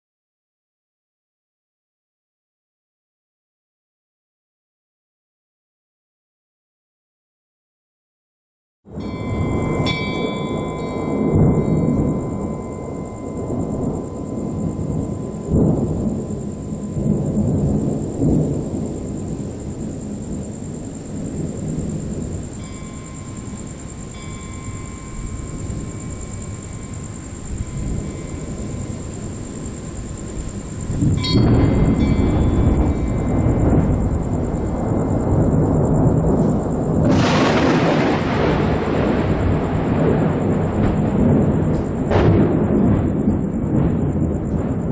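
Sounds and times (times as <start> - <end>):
steady rain: 8.9 - 44.9
thunder crack with hiss: 8.9 - 44.9
thunder rumbling: 8.9 - 44.9.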